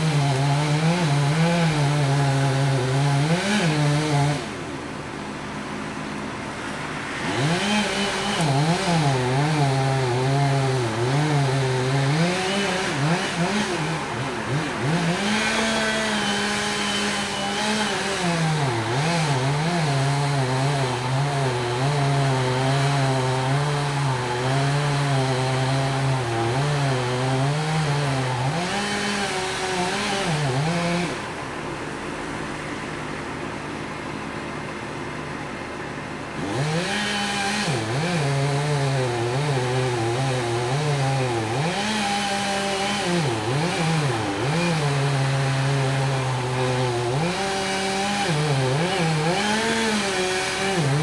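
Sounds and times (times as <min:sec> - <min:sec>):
chainsaw cutting wood: 0:00.0 - 0:33.2, 0:36.1 - 0:51.0.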